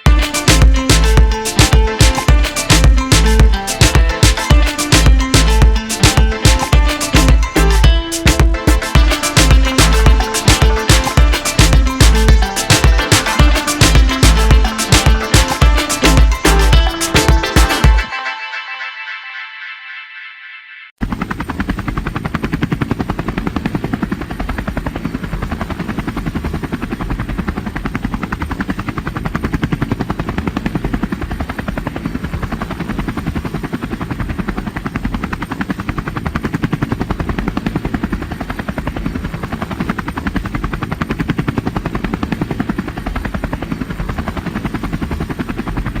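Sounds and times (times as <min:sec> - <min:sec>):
helicopter rotor blades beating: 0:00.0 - 0:18.1, 0:21.0 - 0:46.0.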